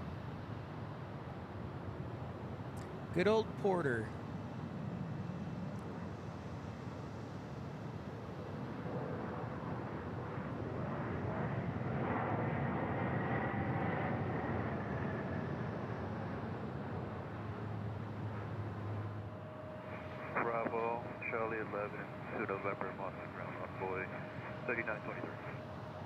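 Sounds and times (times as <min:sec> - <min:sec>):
faint engine whine: 0:00.0 - 0:26.0
jet airliner passing: 0:03.2 - 0:26.0.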